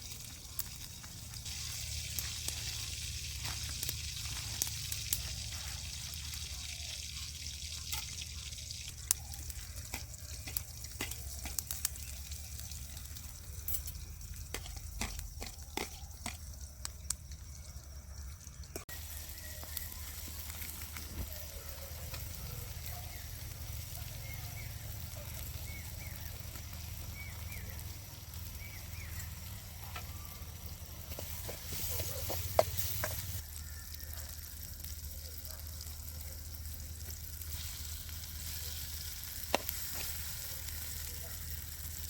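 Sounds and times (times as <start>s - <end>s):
steady sizzling hiss: 0.0s - 42.0s.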